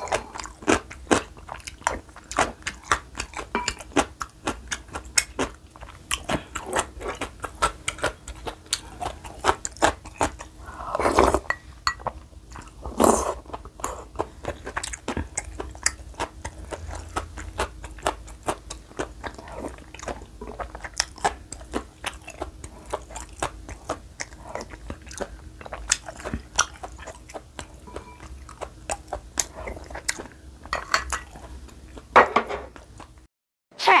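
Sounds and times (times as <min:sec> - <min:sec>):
person chewing with wet mouth sounds: 0:00.0 - 0:32.1.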